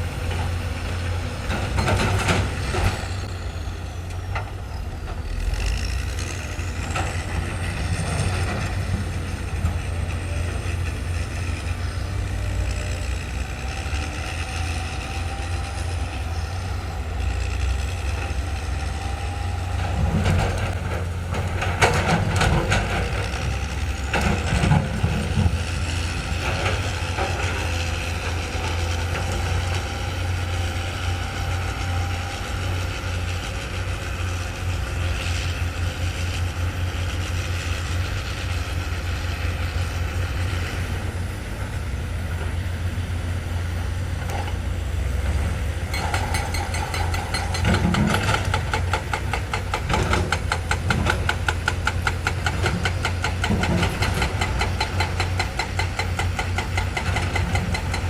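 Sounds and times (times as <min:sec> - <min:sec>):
diesel machinery engine drone: 0:00.0 - 0:58.0.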